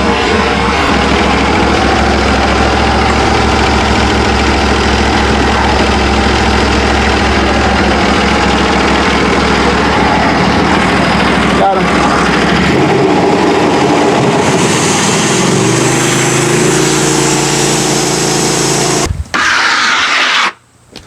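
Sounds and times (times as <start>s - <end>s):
bandsaw mill engine running: 0.0s - 20.4s.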